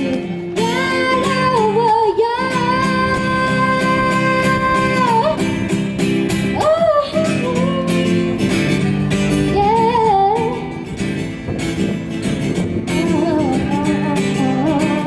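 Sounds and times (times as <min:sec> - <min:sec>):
woman singing: 0:00.0 - 0:05.8, 0:06.5 - 0:10.8, 0:12.9 - 0:15.0
acoustic guitar strumming: 0:00.0 - 0:15.0.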